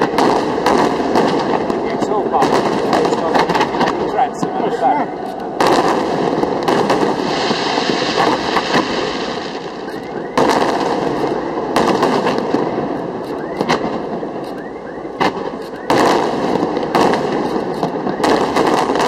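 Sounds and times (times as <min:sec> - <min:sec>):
dense firework crackle: 0:00.0 - 0:19.0
firework shells bursting: 0:00.0 - 0:19.0.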